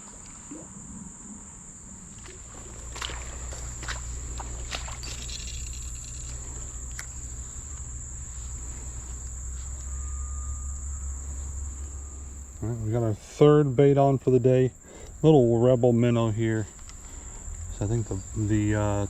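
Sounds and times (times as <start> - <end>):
insects droning: 0.0 - 19.0
low steady rumble: 0.0 - 19.0.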